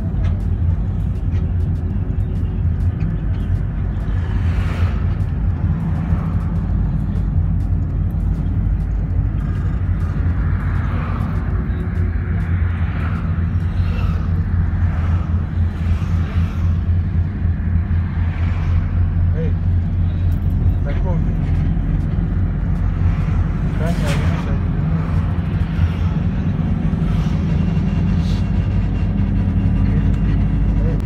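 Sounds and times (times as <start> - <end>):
vehicle engine and tyres rumbling: 0.0 - 31.0.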